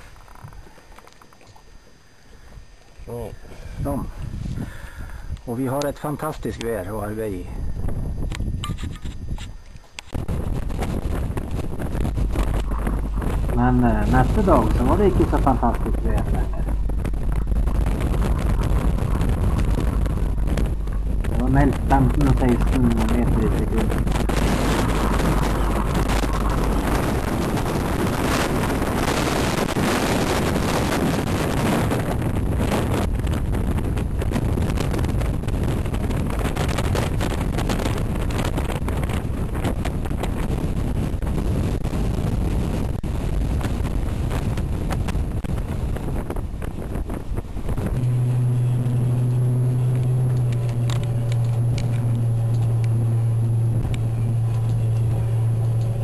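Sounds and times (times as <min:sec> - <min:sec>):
rough sea churning: 0:00.0 - 0:05.5, 0:09.8 - 0:56.0
strong wind buffeting microphone: 0:00.0 - 0:56.0
boat engine running steadily: 0:07.5 - 0:56.0.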